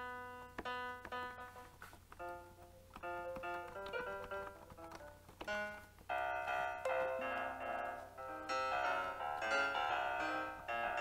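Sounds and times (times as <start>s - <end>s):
piano notes and chords: 0.0s - 11.0s.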